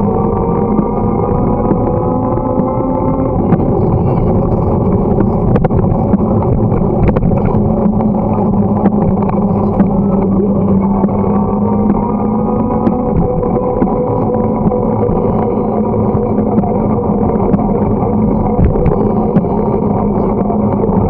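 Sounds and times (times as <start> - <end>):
bicycle tyres and drivetrain hum: 0.0 - 21.0
faint steady tones: 0.0 - 21.0
wind on microphone: 0.0 - 21.0.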